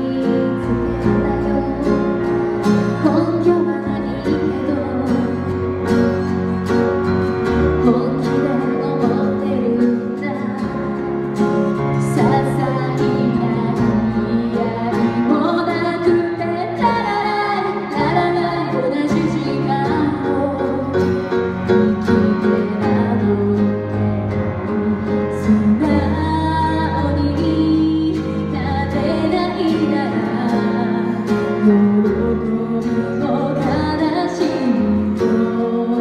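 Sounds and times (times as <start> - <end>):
woman singing: 0.0 - 6.7, 7.4 - 36.0
keyboard: 0.0 - 36.0.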